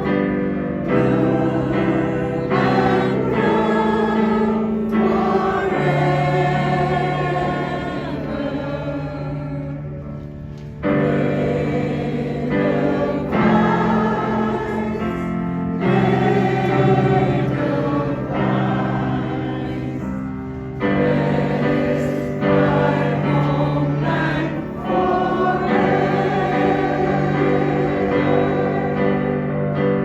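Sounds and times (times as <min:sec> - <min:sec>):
choir singing slow song: 0:00.0 - 0:30.0.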